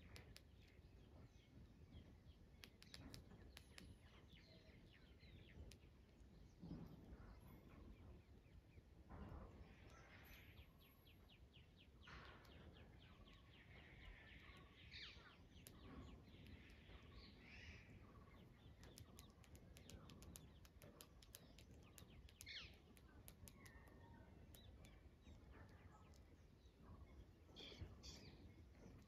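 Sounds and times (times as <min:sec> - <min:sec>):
birds chirping and calling: 0:00.0 - 0:29.0.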